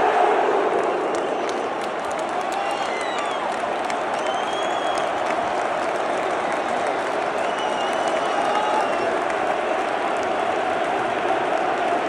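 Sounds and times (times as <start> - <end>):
stadium crowd cheering and applauding: 0.0 - 12.0.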